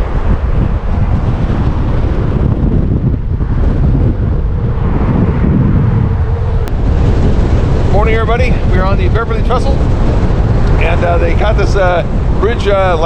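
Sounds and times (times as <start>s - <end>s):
gusting wind buffeting microphone: 0.0s - 13.0s.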